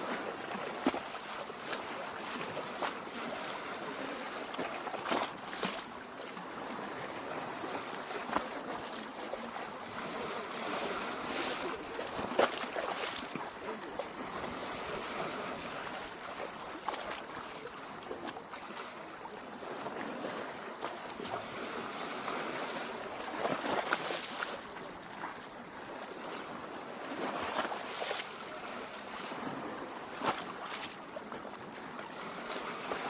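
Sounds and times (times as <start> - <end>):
water splashes: 0.0 - 33.0
waves lapping against shore: 0.0 - 33.0.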